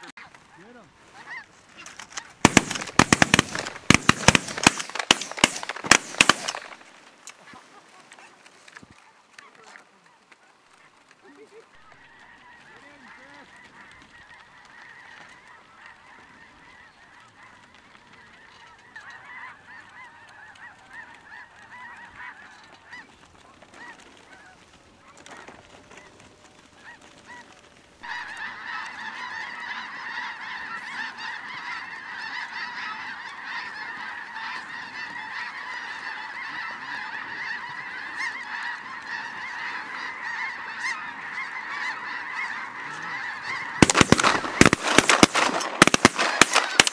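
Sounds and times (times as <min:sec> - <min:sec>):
flock of geese honking: 0:00.0 - 0:46.9.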